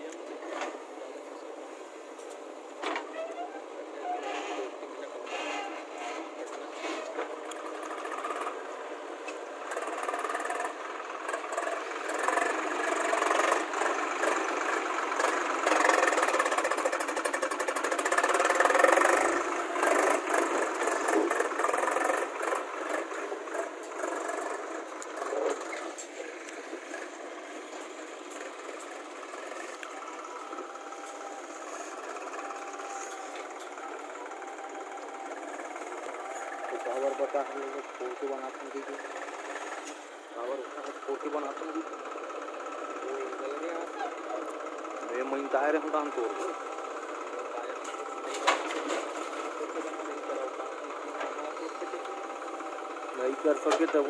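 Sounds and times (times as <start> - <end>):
diesel engines clattering: 0.0 - 54.0.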